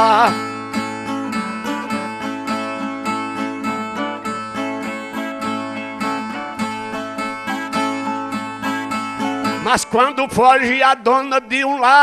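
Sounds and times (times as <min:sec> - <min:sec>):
guitar strummed quickly: 0:00.0 - 0:12.0.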